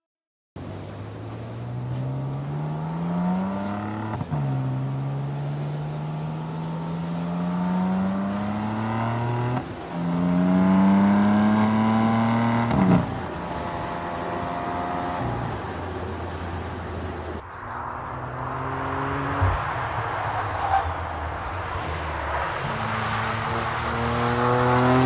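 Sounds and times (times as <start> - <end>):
car engine accelerating: 0.6 - 25.0.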